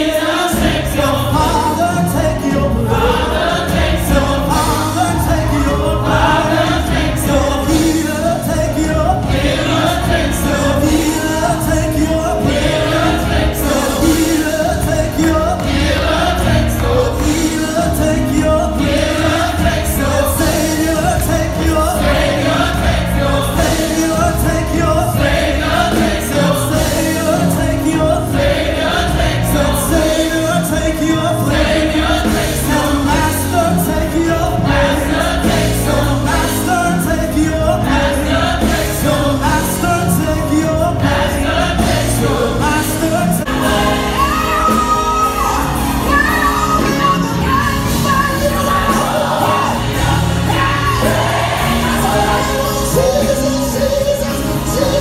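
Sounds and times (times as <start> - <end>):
gospel singers singing together: 0.0 - 55.0.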